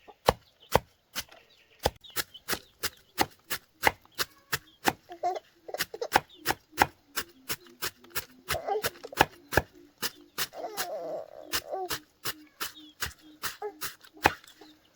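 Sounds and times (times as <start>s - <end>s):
blade chopping: 0.2s - 5.1s, 5.8s - 14.7s.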